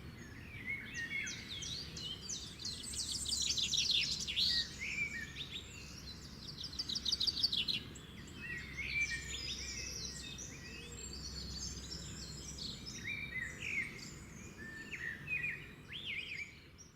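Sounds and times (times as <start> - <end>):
songbirds singing: 0.0 - 16.9.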